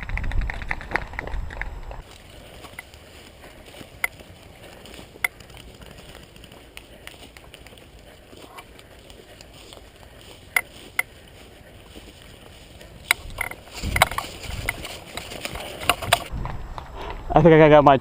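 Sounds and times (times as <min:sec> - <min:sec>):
rustling and knocking of movement: 0:00.0 - 0:16.6.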